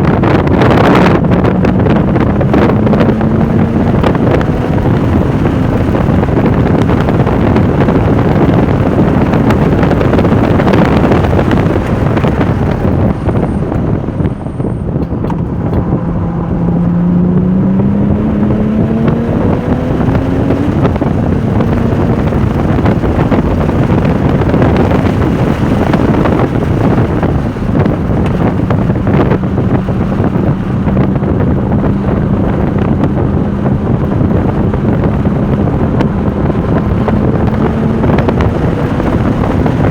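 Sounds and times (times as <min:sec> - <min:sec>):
car engine running hard: 0:00.0 - 0:39.9
wind noise on microphone: 0:00.0 - 0:39.9.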